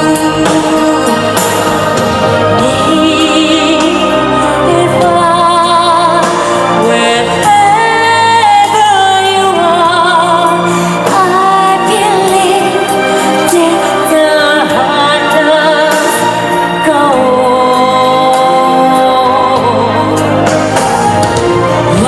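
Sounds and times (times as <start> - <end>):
loud musical accompaniment: 0.0 - 22.0
woman singing pop song: 0.0 - 22.0.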